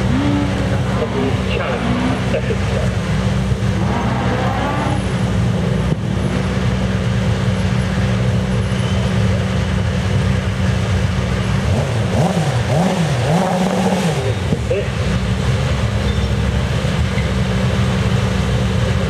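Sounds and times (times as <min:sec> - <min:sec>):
engine revving: 0:00.0 - 0:19.0
racing car engines idling: 0:00.0 - 0:19.0.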